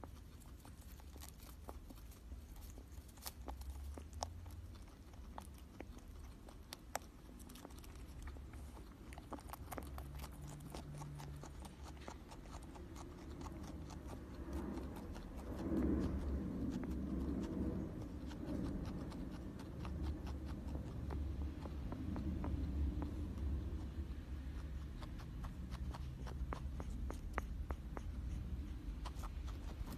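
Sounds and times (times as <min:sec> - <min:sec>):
guinea pig clicking: 0:00.0 - 0:29.9
low steady hum: 0:00.0 - 0:29.9.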